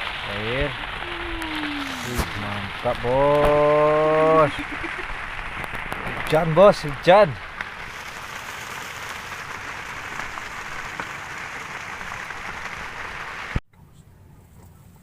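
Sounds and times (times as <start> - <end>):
steady rain hissing: 0.0 - 13.6.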